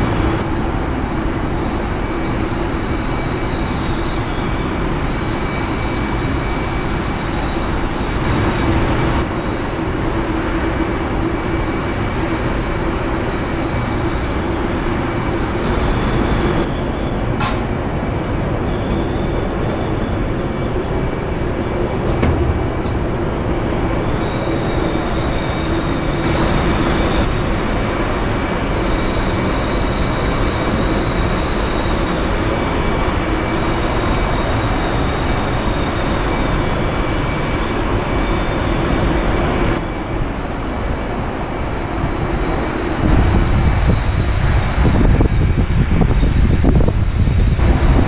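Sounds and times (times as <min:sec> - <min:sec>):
machinery drone with high whine: 0:00.0 - 0:48.0
wind rumble on microphone: 0:00.0 - 0:48.0.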